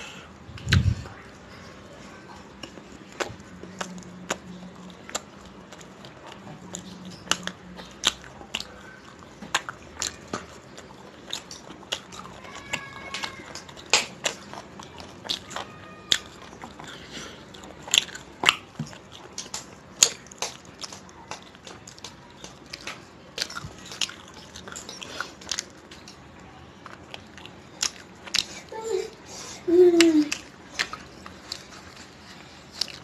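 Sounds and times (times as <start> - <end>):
chewing and wet mouth smacks: 0.5 - 1.2, 2.3 - 28.7, 30.3 - 33.0.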